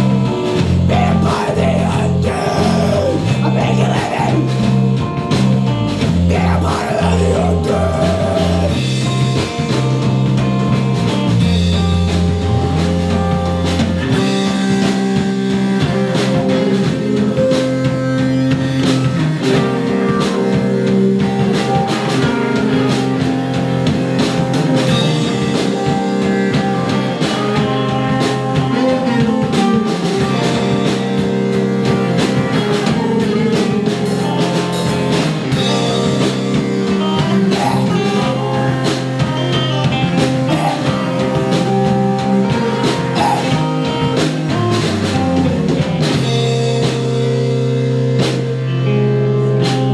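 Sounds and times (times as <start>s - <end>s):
bass guitar: 0.0s - 49.9s
drum kit: 0.0s - 49.9s
electric guitar: 0.0s - 49.9s.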